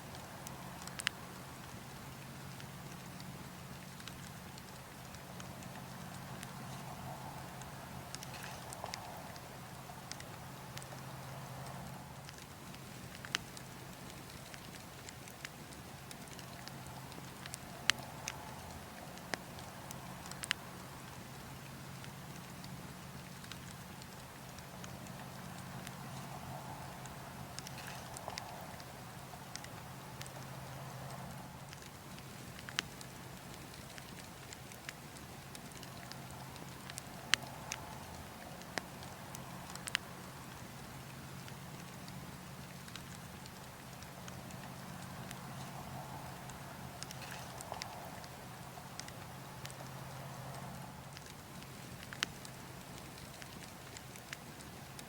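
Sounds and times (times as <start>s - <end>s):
burning logs crackling and popping: 0.0s - 55.0s
wind: 0.0s - 55.0s.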